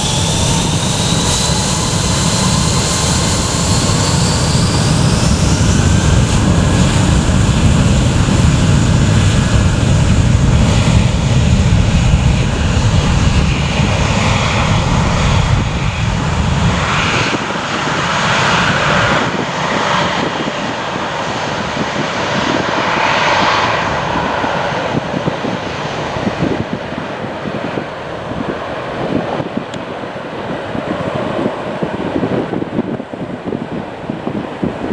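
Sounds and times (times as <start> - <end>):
airliner engines roaring: 0.0 - 34.9.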